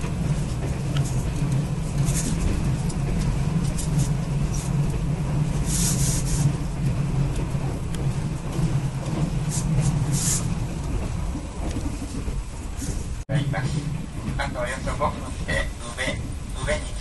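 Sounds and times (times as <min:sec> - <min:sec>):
train rumble inside coach: 0:00.0 - 0:17.0.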